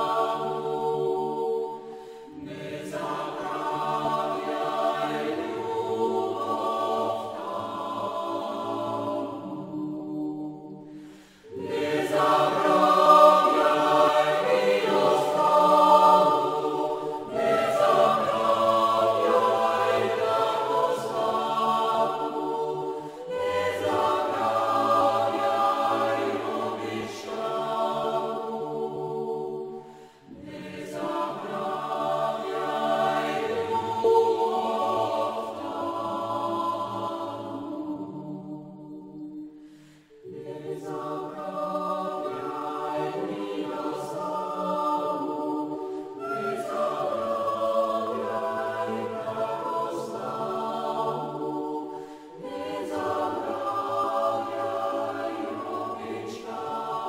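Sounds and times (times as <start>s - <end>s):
choir singing a chant: 0.0s - 57.0s.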